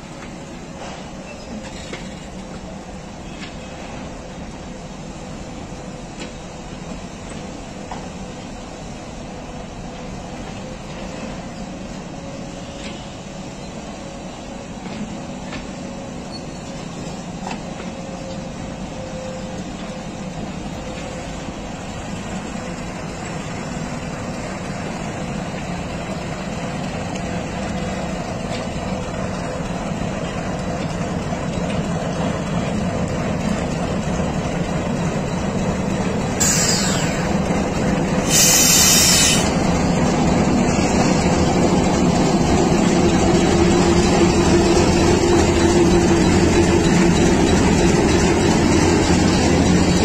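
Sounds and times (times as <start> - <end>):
train rolling rumble: 0.0 - 50.0.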